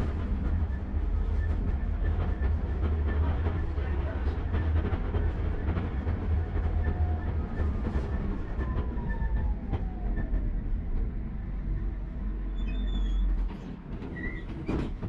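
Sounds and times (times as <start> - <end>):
tram wheels rumbling: 0.0 - 15.0.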